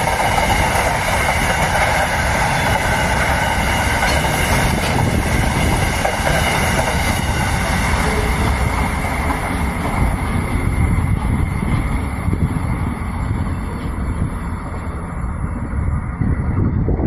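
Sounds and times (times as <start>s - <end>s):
train wagons rumbling past: 0.0s - 17.0s
wind buffeting microphone: 0.0s - 17.0s.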